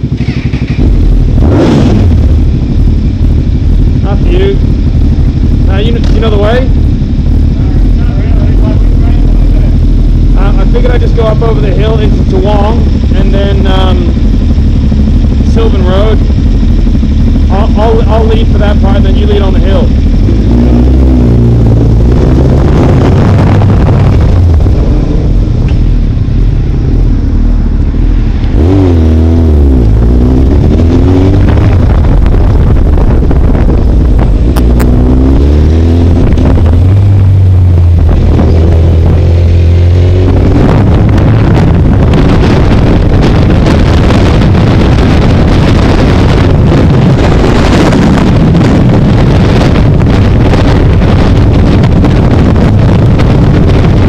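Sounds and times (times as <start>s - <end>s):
motorcycle engine revving: 0.0s - 54.0s
wind noise on microphone: 0.0s - 54.0s.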